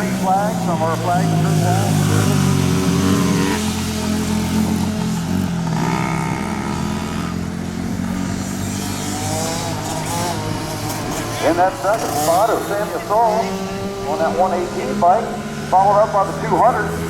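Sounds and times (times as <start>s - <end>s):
racing motorcycles engines: 0.0s - 17.0s.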